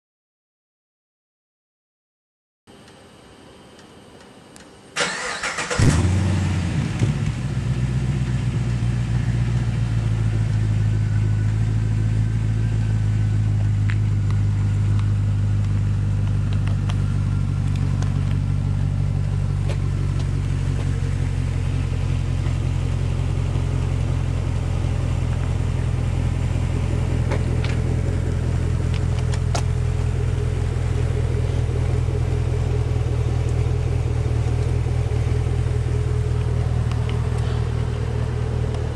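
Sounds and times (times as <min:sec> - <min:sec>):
car engine starting and idling: 0:04.9 - 0:38.9.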